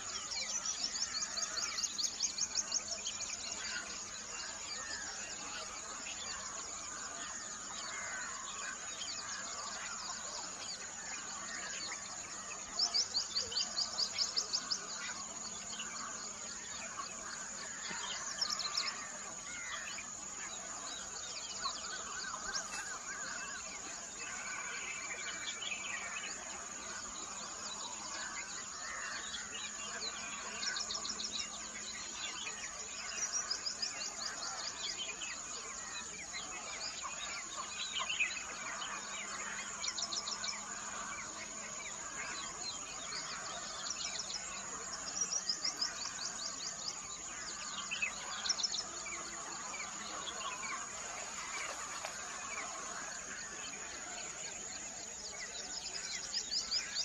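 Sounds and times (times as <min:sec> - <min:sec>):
birds singing and calling: 0:00.0 - 0:57.0.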